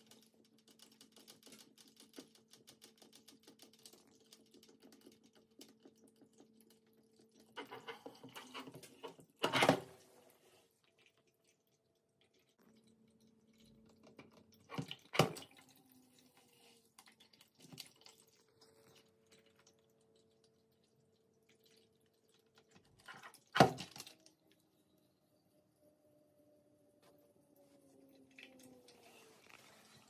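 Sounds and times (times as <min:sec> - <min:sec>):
water dripping and trickling: 0:00.0 - 0:09.4, 0:10.1 - 0:25.1, 0:27.5 - 0:30.0.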